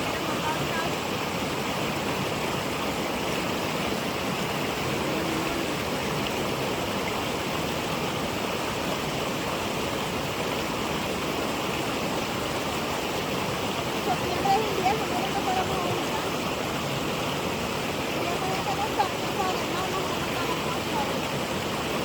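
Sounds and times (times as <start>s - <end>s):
small waterfall rushing: 0.0s - 22.0s.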